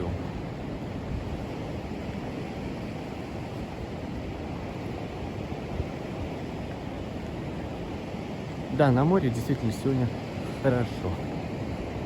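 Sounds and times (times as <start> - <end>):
small waves washing onto shore: 0.0 - 12.0.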